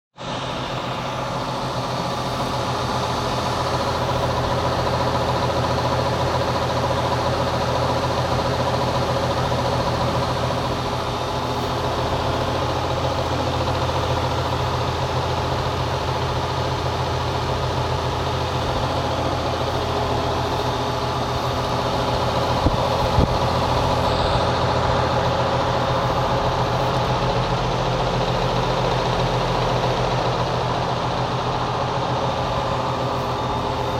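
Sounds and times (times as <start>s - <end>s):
condenser fan humming and whirring: 0.2s - 33.9s.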